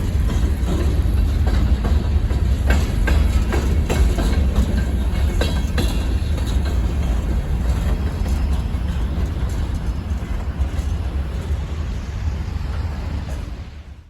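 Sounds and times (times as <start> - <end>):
wheels clacking over rail joints: 0.0 - 13.9
train rumbling past: 0.0 - 14.0.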